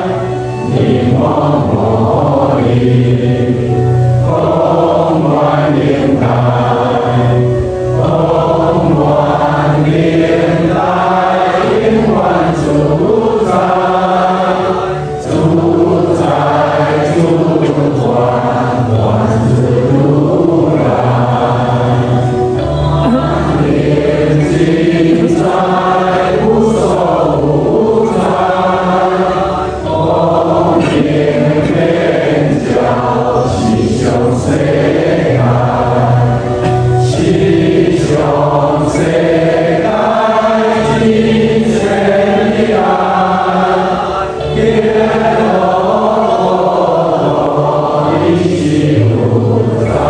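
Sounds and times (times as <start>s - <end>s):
congregation chanting in unison: 0.0s - 50.0s.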